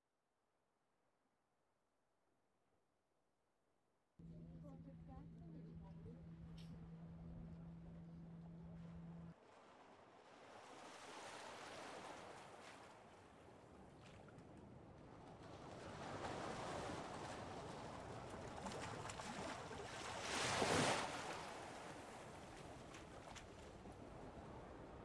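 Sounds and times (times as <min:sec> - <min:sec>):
water lapping: 0:04.2 - 0:25.0
wind: 0:04.2 - 0:25.0.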